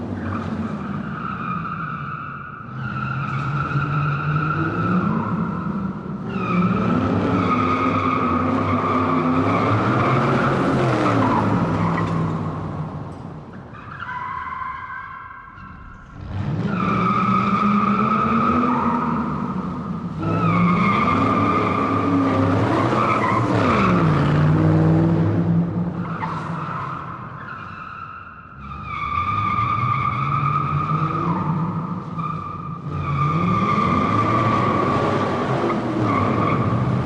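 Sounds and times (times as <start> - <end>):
car tyres squealing: 0.0 - 24.9, 25.9 - 37.0.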